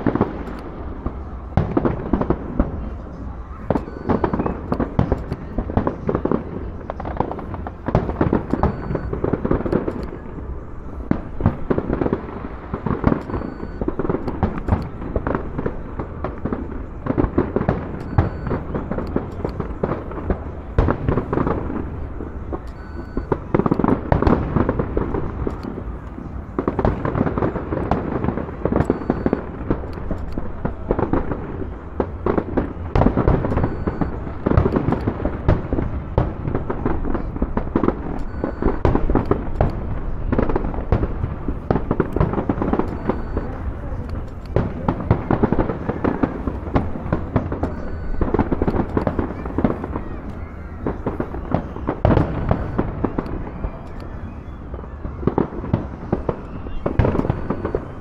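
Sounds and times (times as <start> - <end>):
fireworks bursting: 0.0 - 58.0
fireworks crackle: 0.0 - 58.0.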